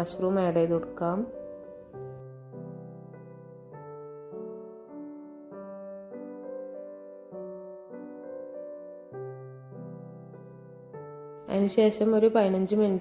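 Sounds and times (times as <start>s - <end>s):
soft electric piano chords: 0.0s - 13.0s.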